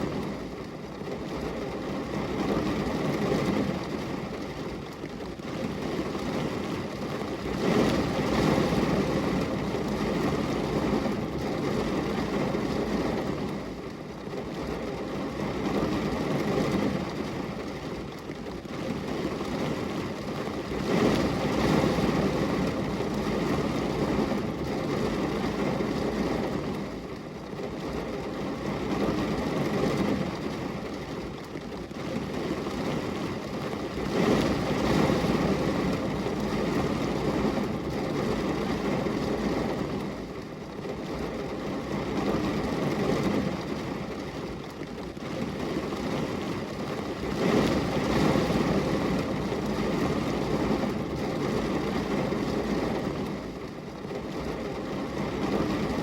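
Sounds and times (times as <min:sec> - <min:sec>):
rain on a glass window: 0:00.0 - 0:56.0.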